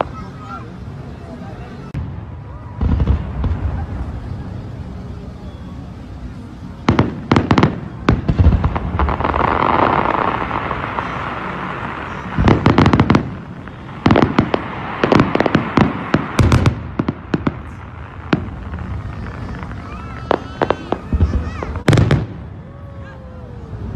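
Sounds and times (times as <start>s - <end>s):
fireworks bangs and cracks: 1.8s - 5.1s, 6.5s - 23.2s
fireworks hiss: 1.8s - 22.5s.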